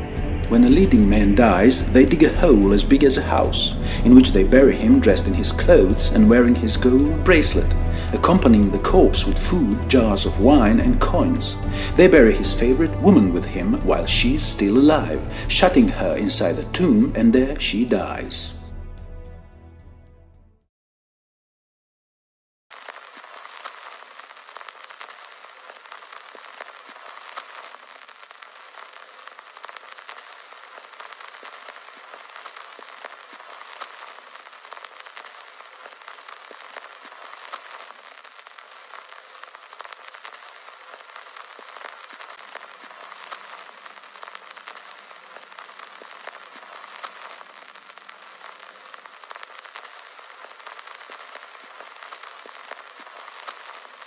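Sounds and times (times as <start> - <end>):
old film crackle and hiss: 0.0 - 18.6, 22.7 - 54.0.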